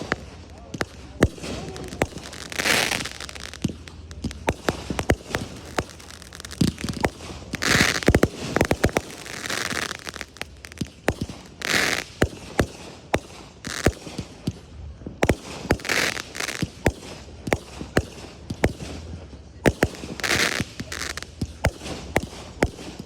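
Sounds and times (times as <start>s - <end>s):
fireworks shells exploding: 0.0s - 23.0s.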